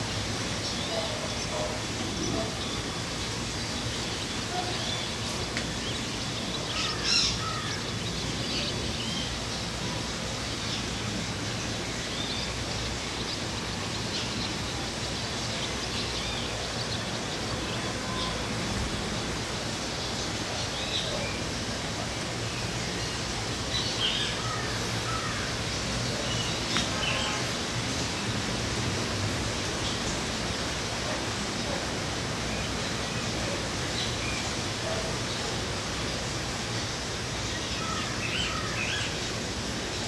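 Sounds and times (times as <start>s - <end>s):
birds calling and chirping: 0.0s - 40.0s.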